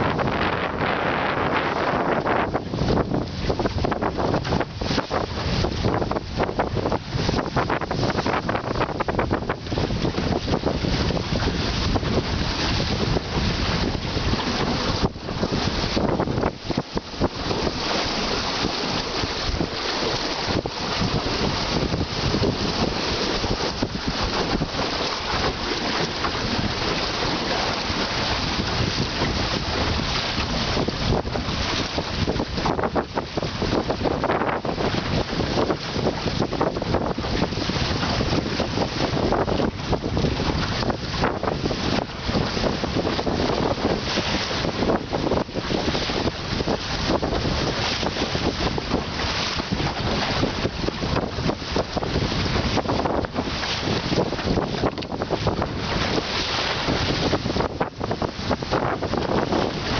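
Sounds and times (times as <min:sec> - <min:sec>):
water splashing along hull: 0:00.0 - 0:59.9
wind buffeting microphone: 0:00.0 - 0:59.9.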